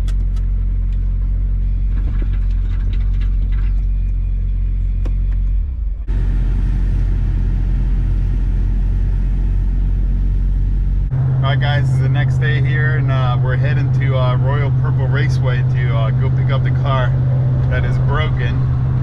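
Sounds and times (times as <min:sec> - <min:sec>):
vehicle road noise rumble: 0:00.0 - 0:19.0.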